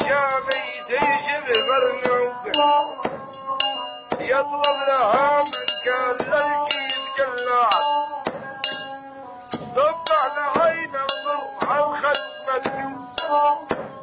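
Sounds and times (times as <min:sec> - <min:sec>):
metal pestle striking brass mortar: 0:00.0 - 0:14.0.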